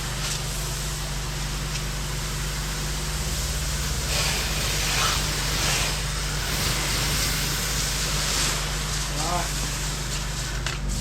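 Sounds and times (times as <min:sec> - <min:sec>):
pressure washer engine running: 0:00.0 - 0:11.0.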